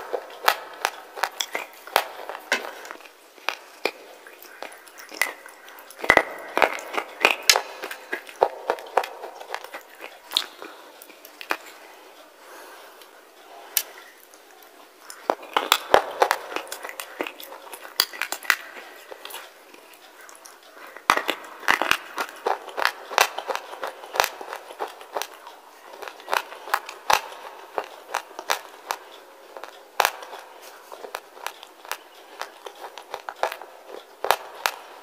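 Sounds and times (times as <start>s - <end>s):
slate being chewed: 0.0s - 35.0s.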